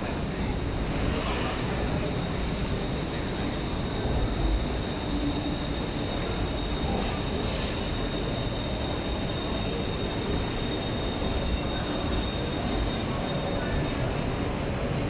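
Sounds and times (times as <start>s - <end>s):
electric train slowing to a stop: 0.0s - 15.0s.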